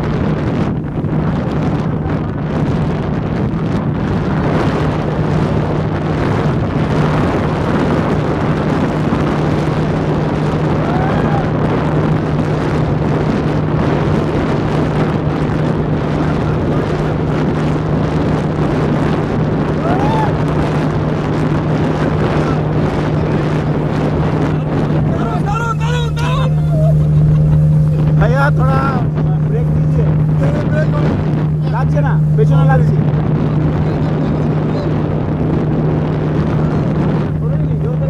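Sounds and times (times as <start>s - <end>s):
rushing water: 0.0s - 38.0s
speedboat engine humming: 0.0s - 38.0s
wind on microphone: 0.0s - 38.0s.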